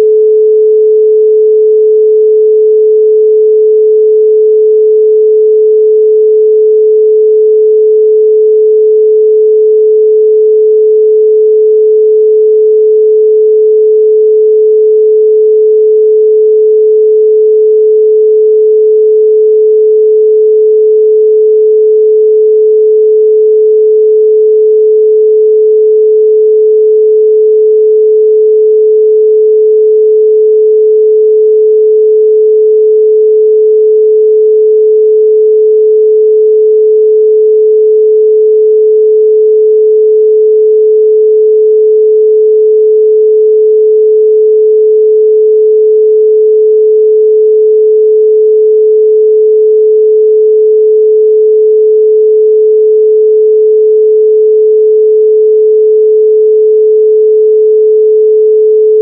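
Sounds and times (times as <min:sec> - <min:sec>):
pure sine tone: 0:00.0 - 0:59.0.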